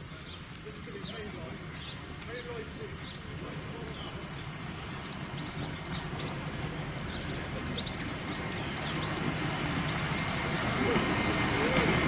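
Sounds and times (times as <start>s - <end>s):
birds chirping: 0.0s - 12.0s
diesel train engine drone: 0.0s - 12.0s.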